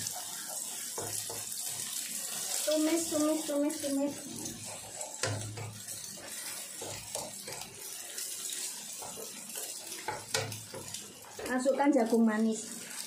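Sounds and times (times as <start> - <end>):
egg sizzling in a wok: 0.0 - 13.0
wooden spatula scraping a pan: 0.0 - 13.0.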